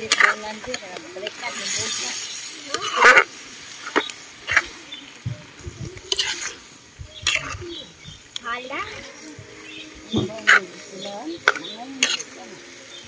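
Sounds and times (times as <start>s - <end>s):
metal spoon scraping a wok: 0.0s - 4.8s, 6.1s - 7.7s, 8.3s - 13.0s
light sizzle: 0.0s - 13.0s.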